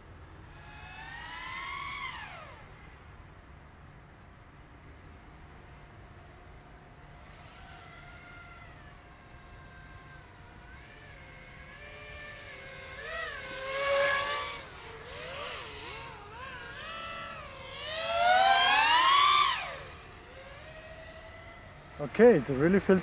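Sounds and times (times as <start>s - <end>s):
quadcopter motors whining: 0.1s - 5.3s, 6.0s - 23.0s.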